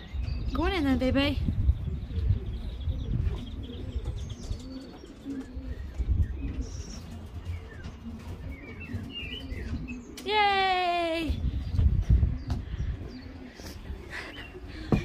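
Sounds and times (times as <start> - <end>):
pigeons cooing: 0.0 - 15.0
small birds chirping: 0.0 - 15.0.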